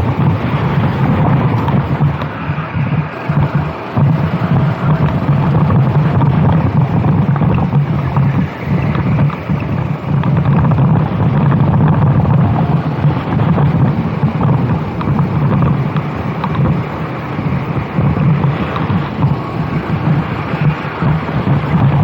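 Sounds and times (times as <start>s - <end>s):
kart engine running hard: 0.0s - 22.0s
wind buffeting microphone: 0.0s - 22.0s.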